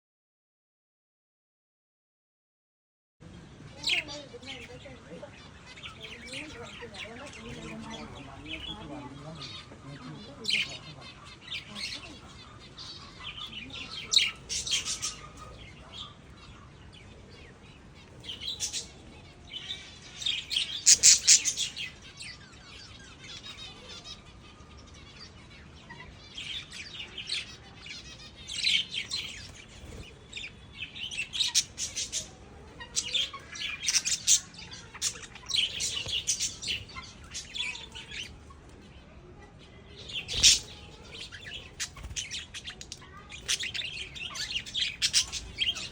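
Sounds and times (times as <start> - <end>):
lovebirds chirping and chattering: 3.2 - 45.9.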